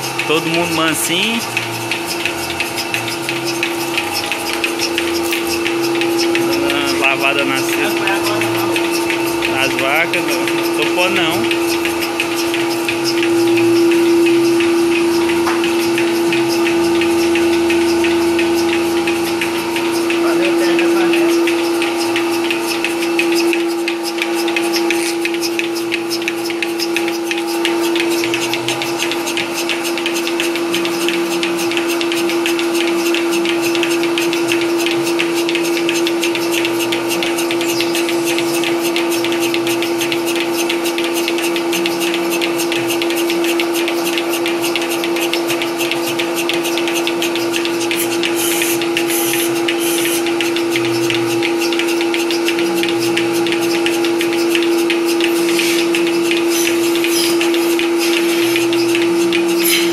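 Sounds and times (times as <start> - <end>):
vacuum pump humming with hiss: 0.0 - 59.9.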